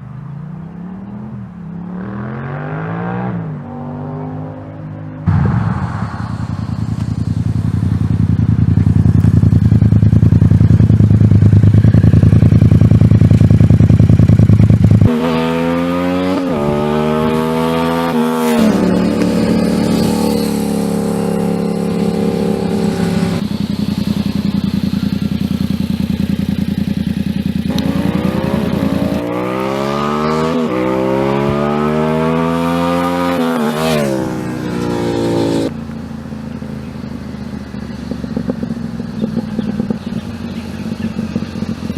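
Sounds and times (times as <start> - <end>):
motorcycle engine revving: 0.8 - 41.9.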